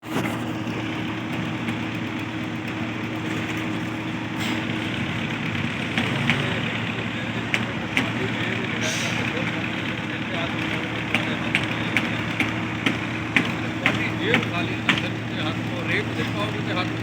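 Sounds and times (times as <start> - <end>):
machinery engine running: 0.0 - 17.0.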